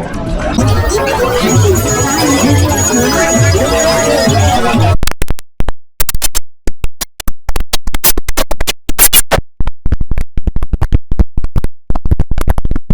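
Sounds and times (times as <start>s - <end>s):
stuttering chopped computer sound: 0.6s - 5.3s, 6.0s - 12.9s.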